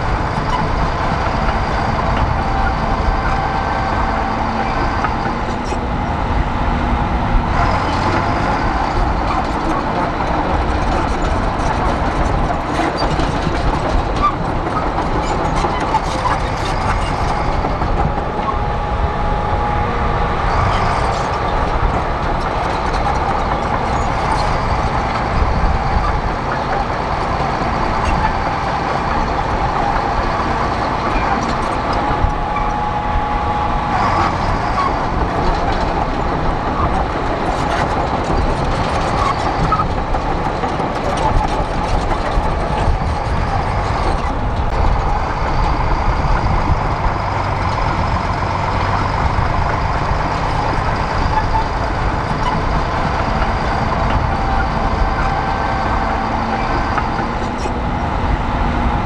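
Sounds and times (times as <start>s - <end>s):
bulldozer diesel engine running: 0.0s - 59.0s
steel tracks clanking: 6.9s - 59.0s.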